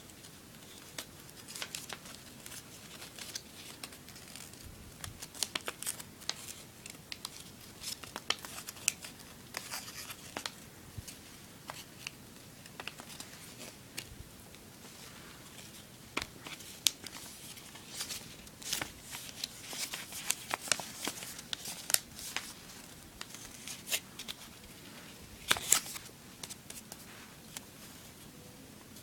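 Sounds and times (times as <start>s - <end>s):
paper being folded and creased: 0.0s - 14.1s, 14.8s - 27.7s.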